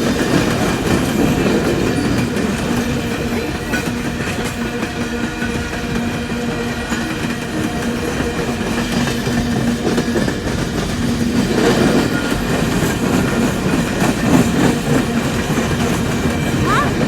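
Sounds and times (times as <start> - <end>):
train cars rumbling past: 0.0 - 17.0
wheels clicking over rail joints: 0.0 - 17.0.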